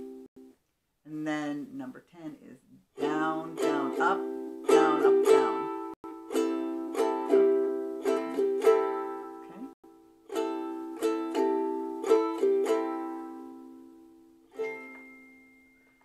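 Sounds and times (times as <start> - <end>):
ukulele strumming: 0.0 - 0.5, 2.9 - 16.0.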